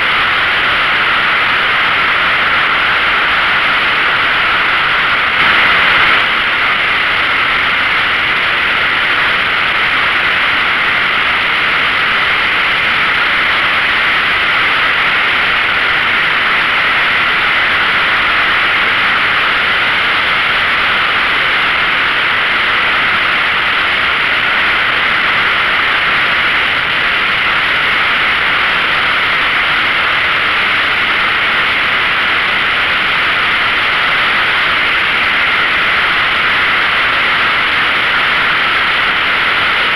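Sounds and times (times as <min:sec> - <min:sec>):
wind rush over microphone: 0:00.0 - 0:39.9.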